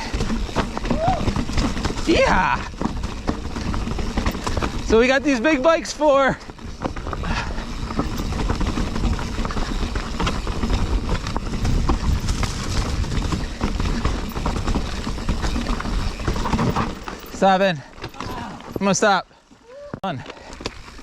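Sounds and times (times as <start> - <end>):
low rumbling rush: 0.0 - 17.3
bike knocking and rattling on rocks: 0.0 - 19.3, 20.2 - 21.0.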